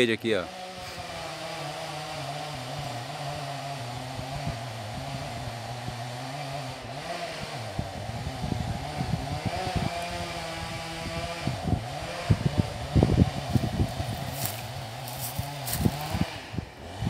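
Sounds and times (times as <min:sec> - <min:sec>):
distant chainsaw running: 0:00.0 - 0:17.0.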